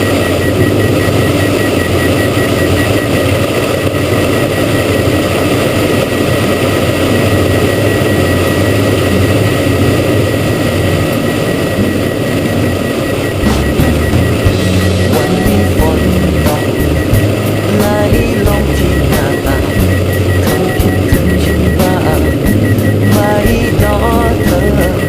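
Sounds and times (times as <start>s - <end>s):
aircraft engines and propellers droning: 0.0s - 25.0s
thin steady whine: 0.0s - 25.0s.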